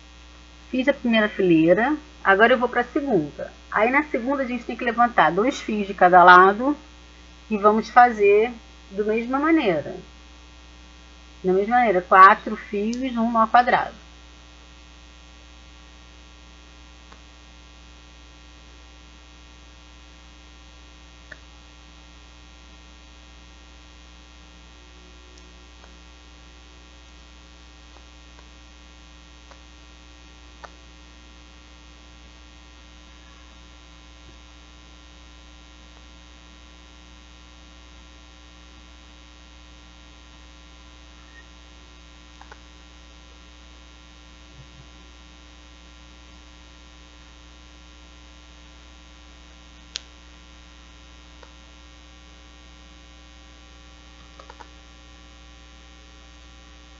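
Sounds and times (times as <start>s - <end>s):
electrical mains hum: 0.0s - 56.9s.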